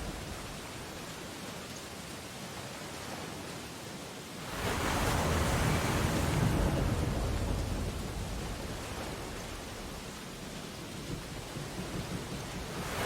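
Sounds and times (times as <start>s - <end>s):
ocean surf: 0.0s - 3.8s, 4.4s - 13.0s.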